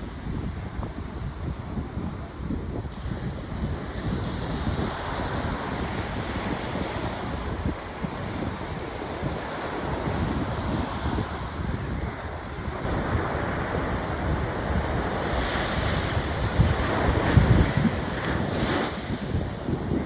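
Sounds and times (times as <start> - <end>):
sea waves breaking on beach: 0.0 - 20.0
wind buffeting microphone: 0.0 - 20.0.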